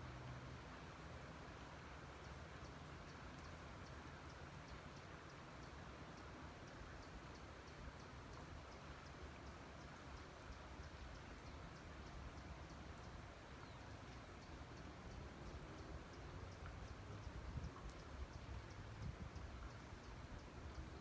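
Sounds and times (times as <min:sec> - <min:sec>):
soft rain hiss: 0:00.0 - 0:21.0.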